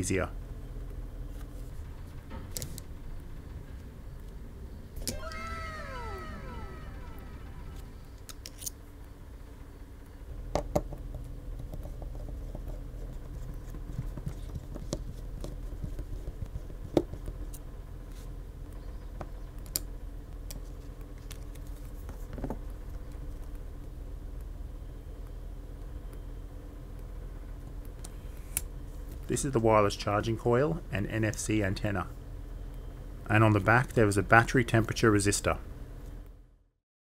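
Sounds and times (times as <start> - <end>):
low steady hum: 0.0 - 36.6.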